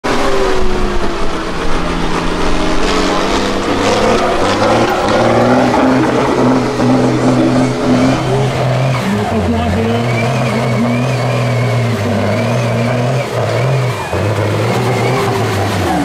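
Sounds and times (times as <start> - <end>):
diesel truck engine running hard: 0.0 - 16.0.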